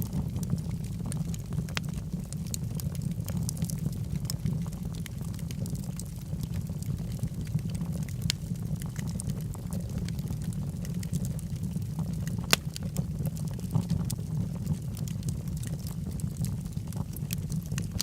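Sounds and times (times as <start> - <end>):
burning wood crackling and popping: 0.0 - 18.0
low rumble of flame: 0.0 - 18.0.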